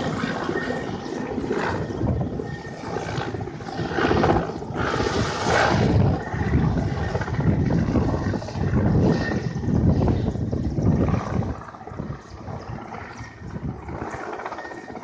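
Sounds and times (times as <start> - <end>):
helicopter rotor and turbines: 0.0 - 15.0
wind buffeting microphone: 0.0 - 15.0.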